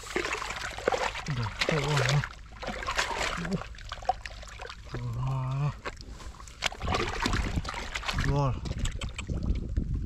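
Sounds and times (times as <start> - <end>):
hands splashing in muddy water: 0.0 - 9.8.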